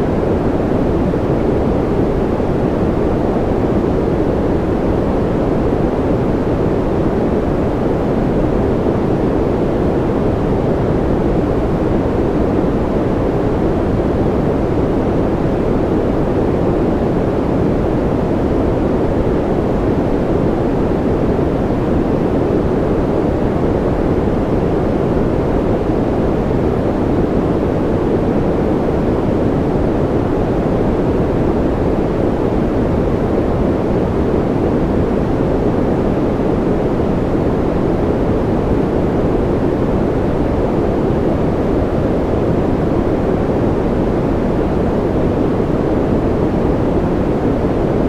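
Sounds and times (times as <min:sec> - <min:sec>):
rain-style white noise: 0:00.0 - 0:48.0.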